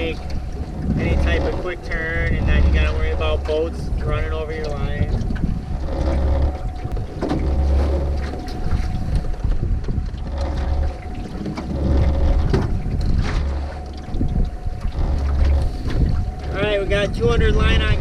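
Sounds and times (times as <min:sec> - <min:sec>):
boat motor humming: 0:00.0 - 0:18.0
water knocking against hull: 0:00.0 - 0:18.0
wind buffeting microphone: 0:00.0 - 0:18.0.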